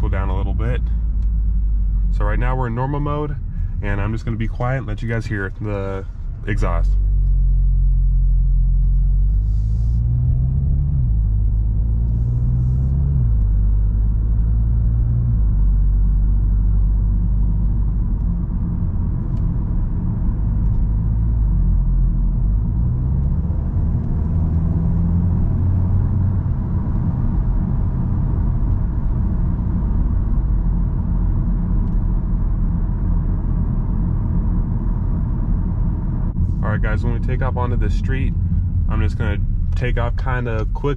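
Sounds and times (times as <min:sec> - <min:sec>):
car engine hum: 0:00.0 - 0:40.9
road rumble: 0:00.0 - 0:40.9.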